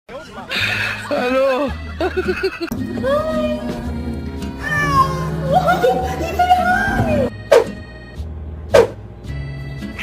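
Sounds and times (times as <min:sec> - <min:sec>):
background music: 0:00.5 - 0:10.0.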